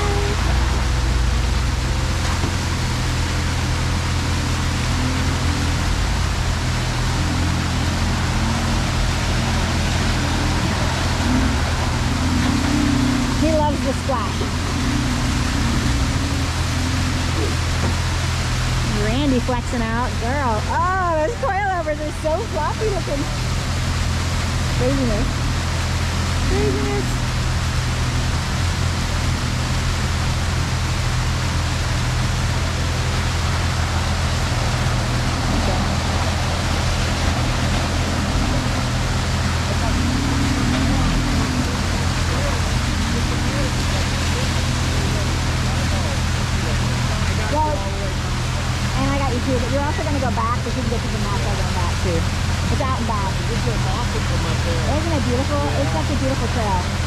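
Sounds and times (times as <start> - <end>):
car engine running low: 0.0 - 57.0
constant rushing hiss: 0.0 - 57.0.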